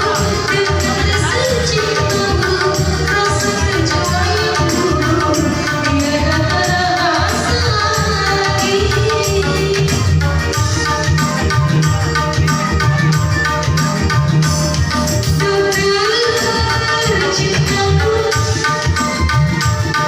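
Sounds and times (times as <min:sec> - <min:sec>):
drum and hand percussion beat: 0:00.0 - 0:20.0
live band music: 0:00.0 - 0:20.0.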